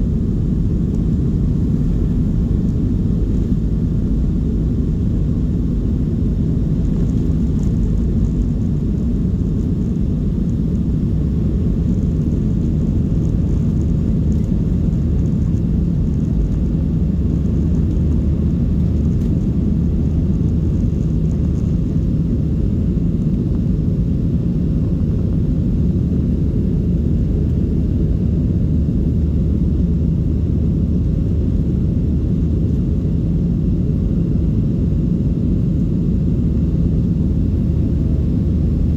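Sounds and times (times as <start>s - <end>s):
faint steady hum: 0.0s - 38.9s
jet engine rumble in cabin: 0.0s - 38.9s.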